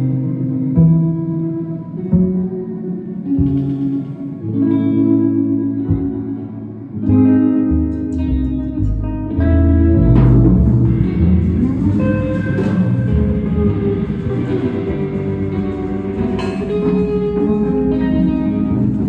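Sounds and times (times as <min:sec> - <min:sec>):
low bass notes: 0:00.0 - 0:19.0
plucked guitar notes: 0:00.0 - 0:19.0.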